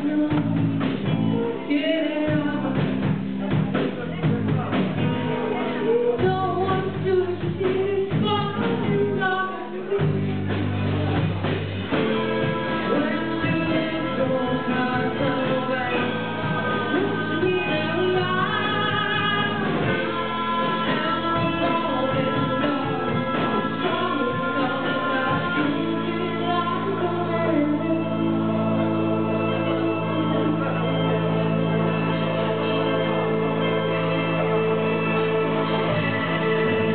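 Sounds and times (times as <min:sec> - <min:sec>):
drums: 0:00.0 - 0:36.9
electric guitar: 0:00.0 - 0:36.9
keyboard chords: 0:00.0 - 0:36.9
women singing: 0:05.4 - 0:10.6, 0:12.0 - 0:36.9.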